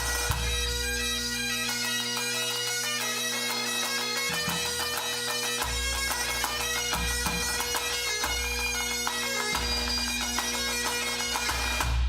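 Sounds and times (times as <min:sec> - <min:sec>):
bagpipes with drones: 0:00.0 - 0:12.0.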